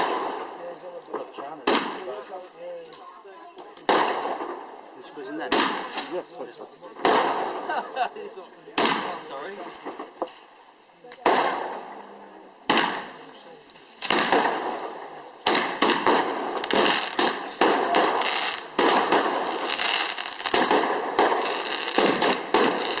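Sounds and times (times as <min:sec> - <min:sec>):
fireworks banging and crackling: 0:00.0 - 0:23.0.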